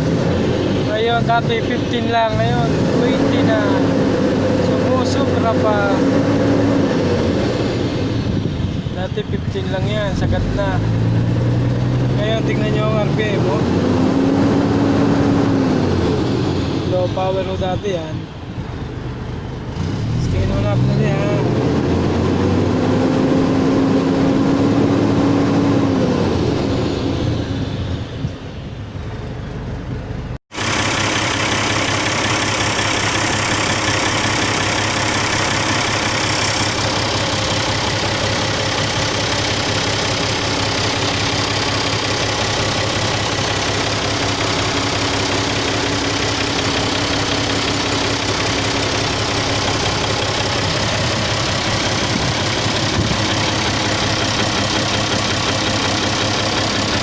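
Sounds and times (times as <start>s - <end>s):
diesel engine revving and idling: 0.0s - 57.0s.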